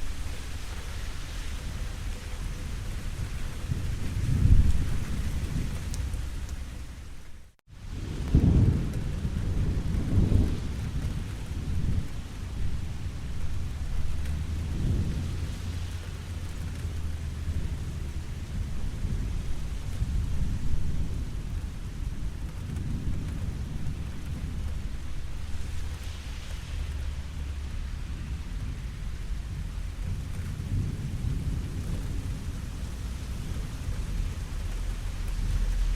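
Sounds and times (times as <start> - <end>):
steady rainfall: 0.0 - 35.9
thunder rumbling: 0.0 - 35.9.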